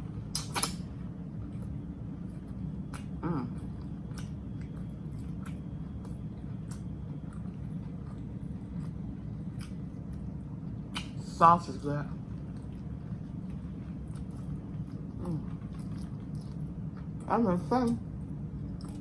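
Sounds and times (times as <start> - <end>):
steady low hum: 0.0 - 19.0
chewing and wet mouth clicks: 0.3 - 11.2, 12.3 - 17.3, 17.9 - 19.0.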